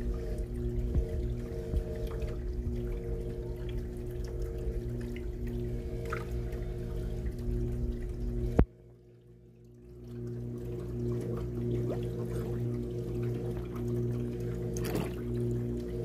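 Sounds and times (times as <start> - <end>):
electric hum: 0.0 - 16.0
water trickling and pouring: 0.0 - 16.0.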